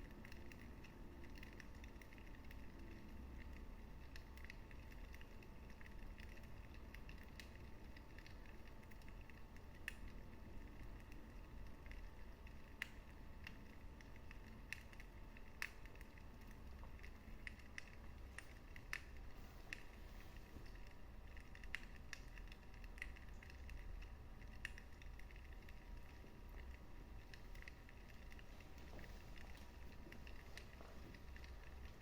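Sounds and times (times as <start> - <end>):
low rumble of burning: 0.0 - 32.0.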